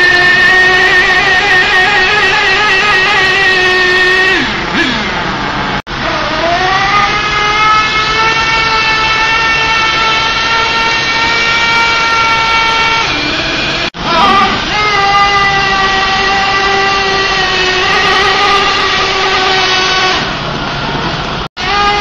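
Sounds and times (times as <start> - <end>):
small nitro engine whining: 0.0 - 20.4, 21.6 - 22.0.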